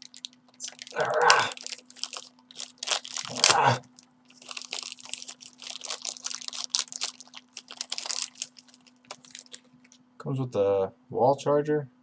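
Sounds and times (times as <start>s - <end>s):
packaging crinkling and rustling: 0.0s - 10.0s
faint steady hum: 0.0s - 12.0s.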